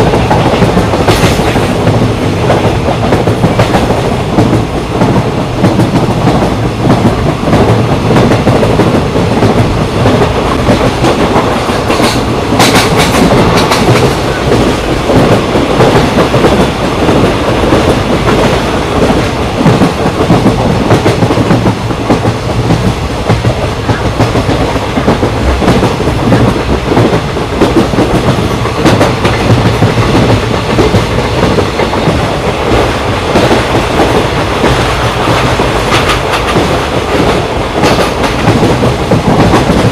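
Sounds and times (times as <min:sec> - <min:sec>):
train rumbling: 0:00.0 - 0:39.9
train wheels clattering: 0:00.0 - 0:39.9.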